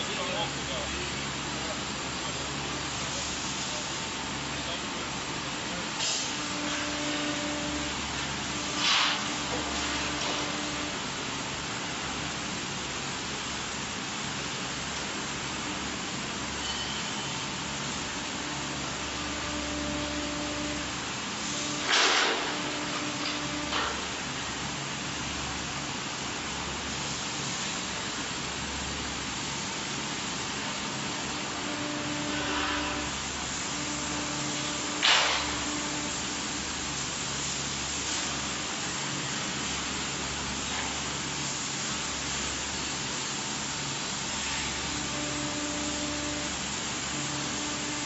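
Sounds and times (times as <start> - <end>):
machine hiss and hum: 0.0 - 48.0.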